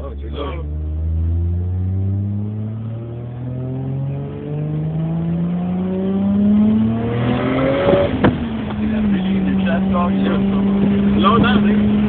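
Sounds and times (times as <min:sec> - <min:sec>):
turbocharged car engine accelerating: 0:00.0 - 0:12.0.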